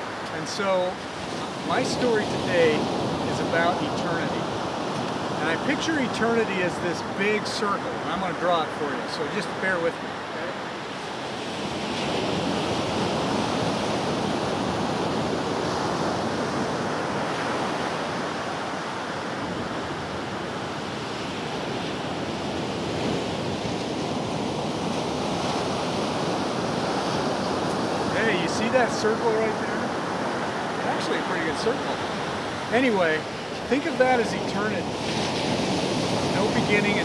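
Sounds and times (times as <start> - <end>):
ocean surf washing onto beach: 0.0 - 37.0.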